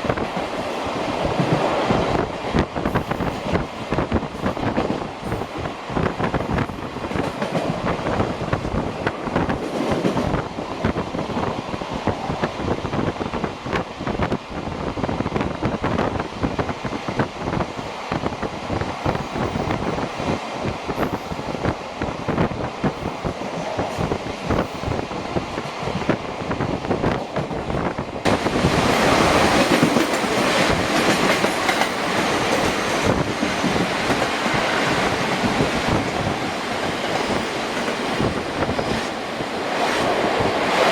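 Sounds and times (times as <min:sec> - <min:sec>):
train running noise: 0:00.0 - 0:40.9.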